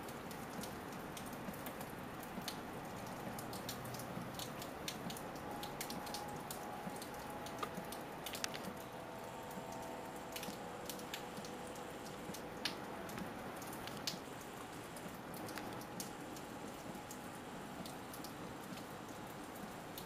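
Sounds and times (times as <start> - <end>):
drops ticking on a surface: 0.0 - 8.9, 9.5 - 20.0
steady rain falling: 0.0 - 20.0.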